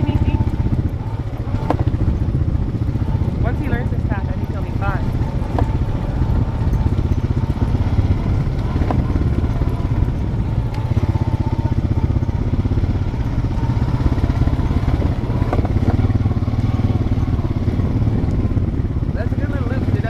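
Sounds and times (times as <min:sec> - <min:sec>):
quad engine running: 0:00.0 - 0:20.0.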